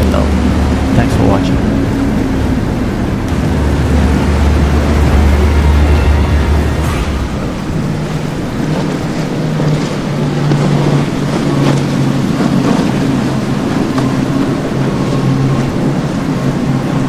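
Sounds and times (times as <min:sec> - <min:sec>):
hull slamming through waves: 0:00.0 - 0:17.0
motorboat engine drone: 0:00.0 - 0:17.0
water rushing: 0:00.0 - 0:17.0.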